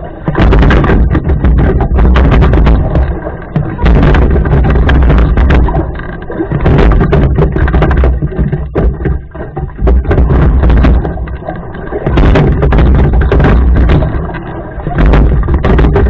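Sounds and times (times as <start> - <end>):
water surging with oar strokes: 0.0 - 16.0
oars knocking in oarlocks: 0.2 - 16.0.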